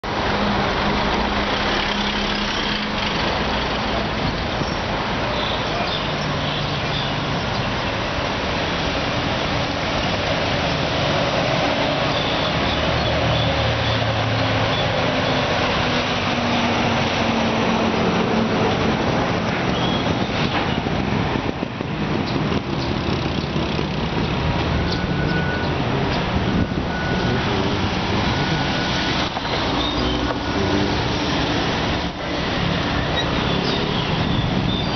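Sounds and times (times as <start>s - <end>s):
street traffic: 0.0s - 34.9s.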